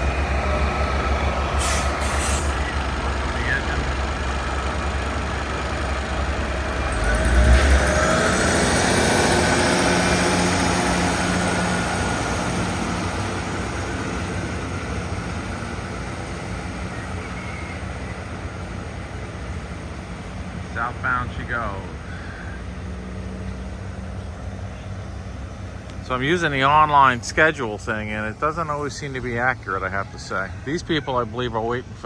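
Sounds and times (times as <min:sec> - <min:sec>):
diesel locomotive engine: 0:00.0 - 0:32.0.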